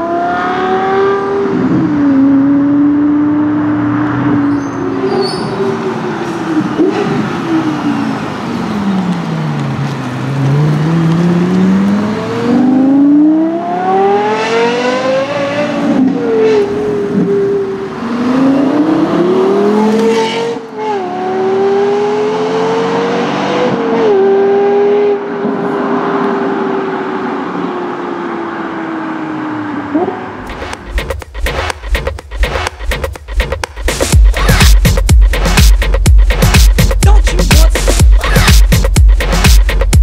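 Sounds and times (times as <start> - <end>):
sports car engine accelerating: 0.0 - 33.4.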